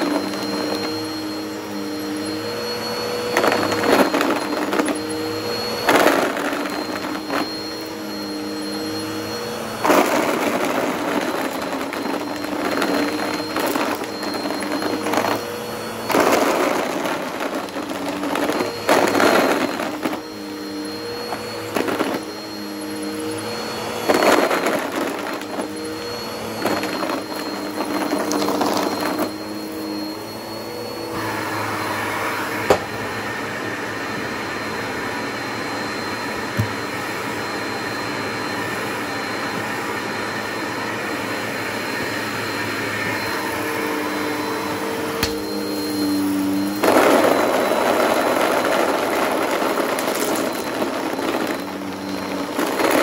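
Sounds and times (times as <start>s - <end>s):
vacuum cleaner motor humming: 0.0s - 53.0s.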